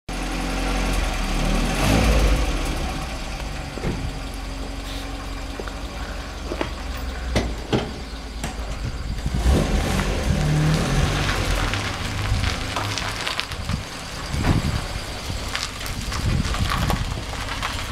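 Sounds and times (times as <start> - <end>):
car engine idling: 0.1 - 17.9.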